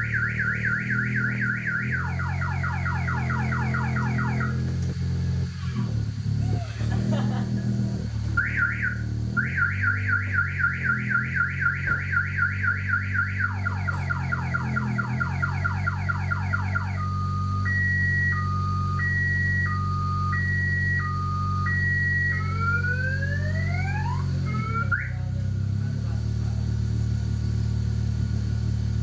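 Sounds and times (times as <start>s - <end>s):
car alarm siren: 0.0s - 4.9s, 7.0s - 25.4s.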